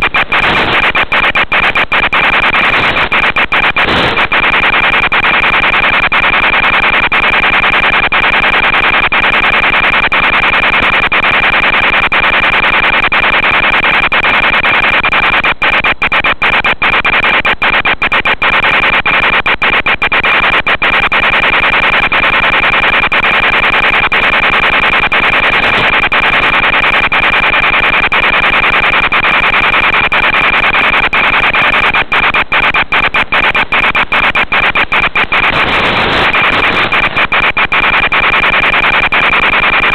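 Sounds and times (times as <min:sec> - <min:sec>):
loud static hiss: 0:00.0 - 0:09.8, 0:13.8 - 0:39.9
static crackling: 0:00.0 - 0:39.9.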